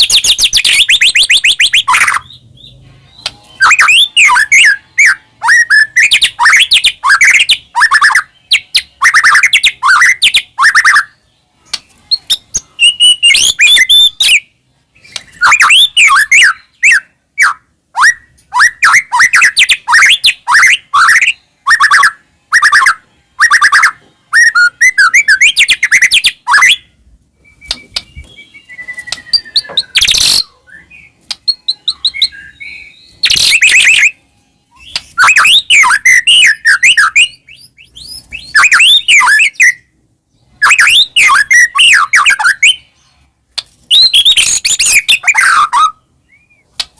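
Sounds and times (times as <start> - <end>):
songbird whistling and chattering: 0.0 - 42.9, 43.9 - 46.9.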